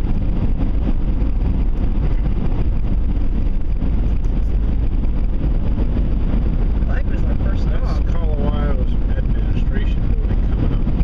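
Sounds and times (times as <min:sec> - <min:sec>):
vehicle driving rumble: 0:00.0 - 0:11.0
wind buffeting microphone: 0:00.0 - 0:11.0.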